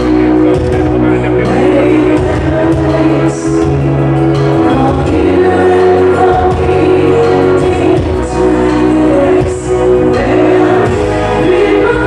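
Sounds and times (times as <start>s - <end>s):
bass line: 0.0s - 12.0s
soul music on electronic keyboard: 0.0s - 12.0s
woman singing into microphone: 0.0s - 12.0s.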